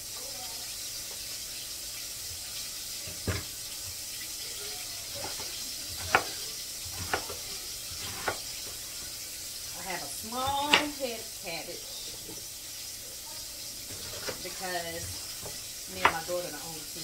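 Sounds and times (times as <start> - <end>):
sizzling hiss of frying: 0.0 - 17.0.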